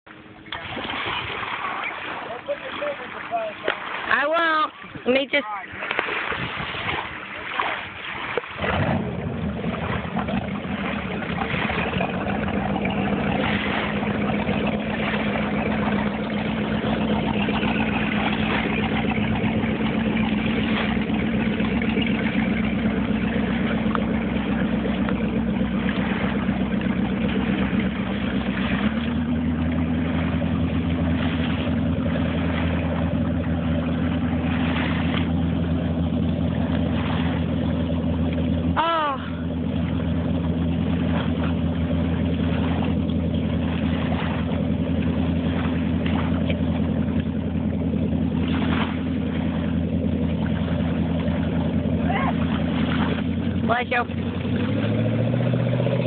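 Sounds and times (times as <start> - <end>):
speedboat engine running: 0.0 - 56.0.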